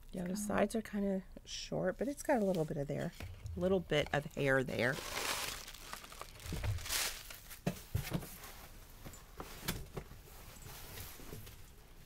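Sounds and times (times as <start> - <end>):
wig rustling and crinkling: 2.0 - 12.0.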